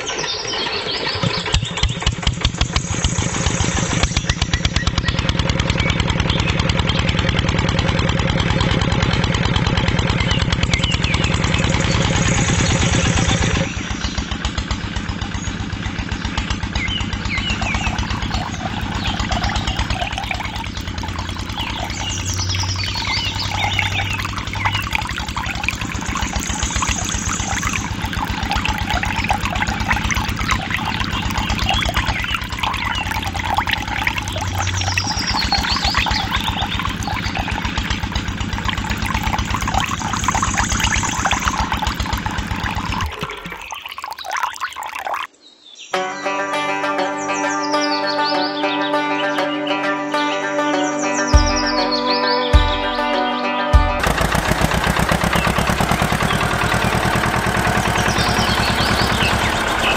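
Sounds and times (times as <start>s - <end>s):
small diesel engine putting: 0.0s - 43.6s, 54.0s - 59.9s.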